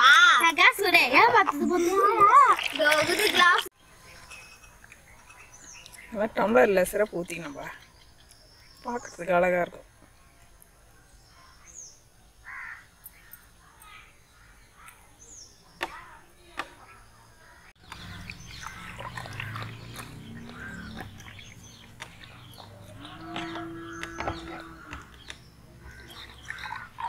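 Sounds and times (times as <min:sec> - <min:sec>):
birds chirping: 0:02.7 - 0:27.0.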